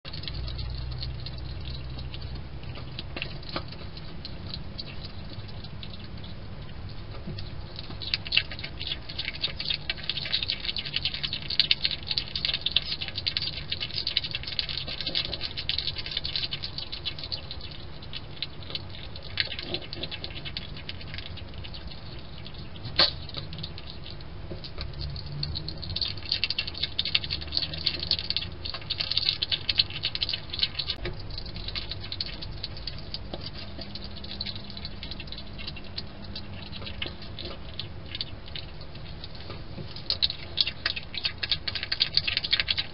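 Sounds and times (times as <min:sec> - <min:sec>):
hedgehog chewing and crunching: 0:00.0 - 0:42.9.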